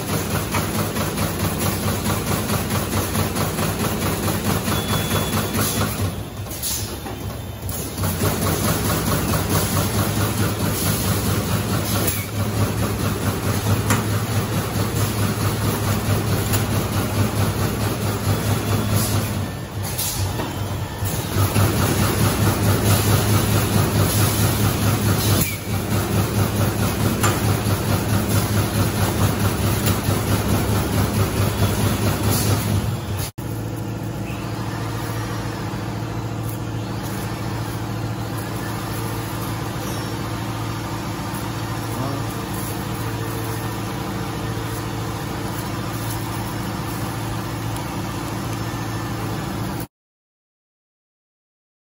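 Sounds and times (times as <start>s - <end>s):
machine hum with low drone: 0.0s - 49.9s.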